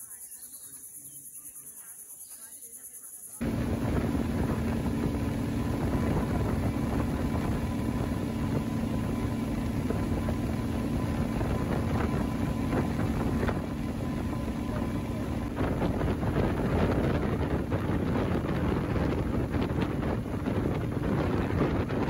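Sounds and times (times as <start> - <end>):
speedboat engine drone: 3.4 - 22.0
wind buffeting microphone: 3.4 - 22.0.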